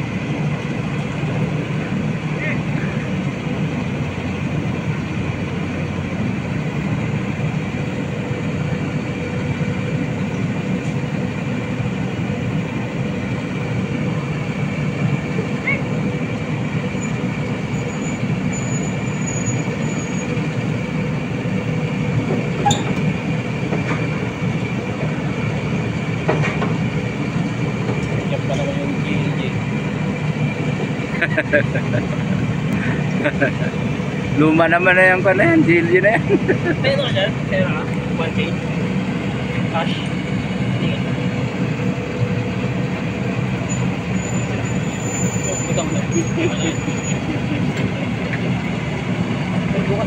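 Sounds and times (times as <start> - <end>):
crane diesel engine running: 0.0 - 50.0.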